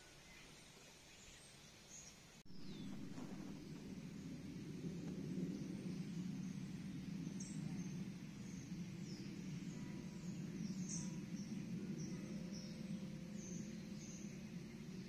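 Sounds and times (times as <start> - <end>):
small birds chirping: 0.0 - 15.0
low background rumble: 2.4 - 15.0.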